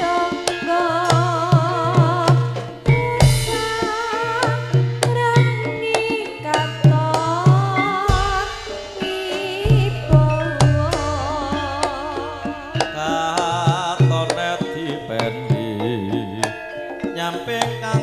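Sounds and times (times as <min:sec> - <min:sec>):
hand drum rhythm: 0:00.0 - 0:18.0
person singing with vibrato: 0:00.0 - 0:18.0.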